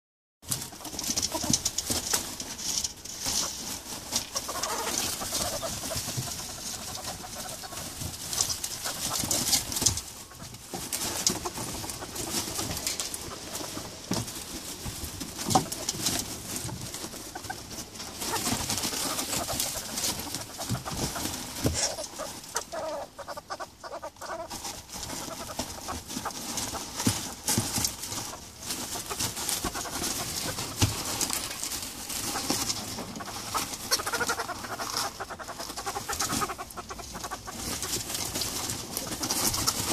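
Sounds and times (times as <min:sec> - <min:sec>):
scuffling in wood shavings: 0:00.4 - 0:39.9.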